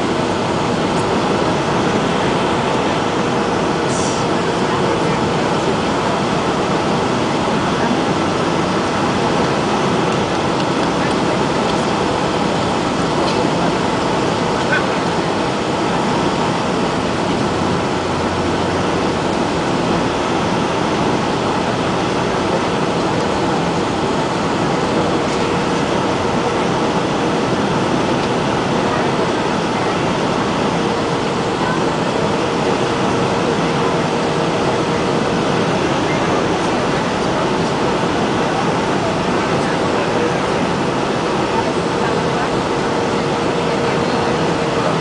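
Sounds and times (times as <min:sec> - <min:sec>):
airplane cabin engine noise: 0:00.0 - 0:45.0.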